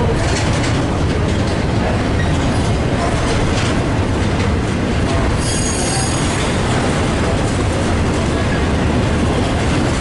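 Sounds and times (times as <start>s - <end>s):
train wheels clicking over rail joints: 0.0s - 10.0s.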